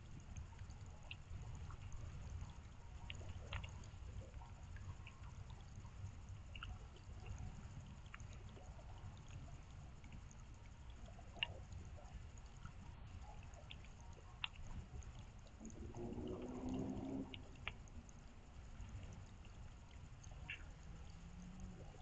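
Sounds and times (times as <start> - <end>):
low steady rumble: 0.0 - 22.0
rain drops ticking: 0.0 - 22.0.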